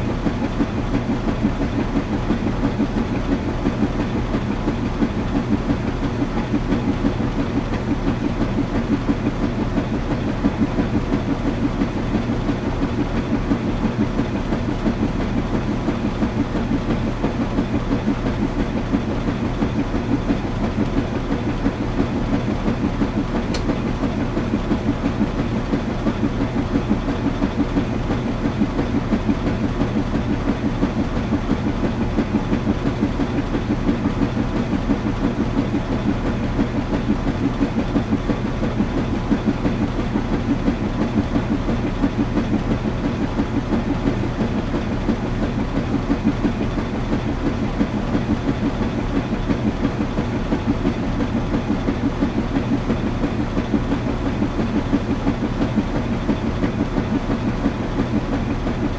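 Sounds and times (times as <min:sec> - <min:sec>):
washing machine rumbling: 0:00.0 - 0:58.9.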